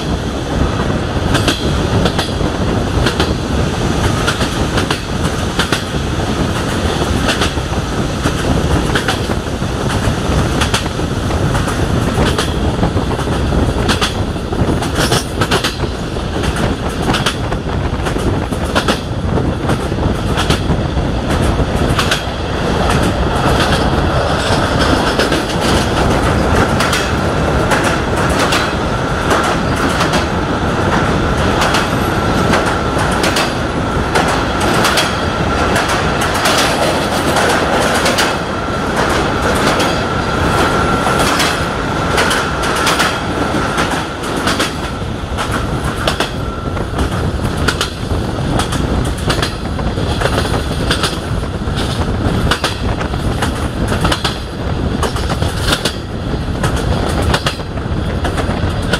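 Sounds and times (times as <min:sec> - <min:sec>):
train wheels clicking over rail joints: 0:00.0 - 0:58.9.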